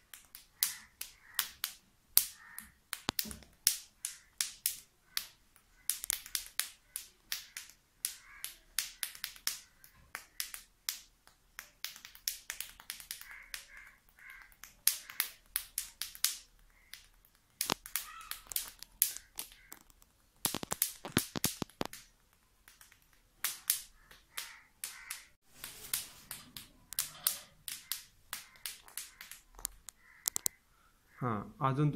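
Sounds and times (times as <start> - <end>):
finger snaps and clicks: 0.1 - 25.3, 26.2 - 30.6.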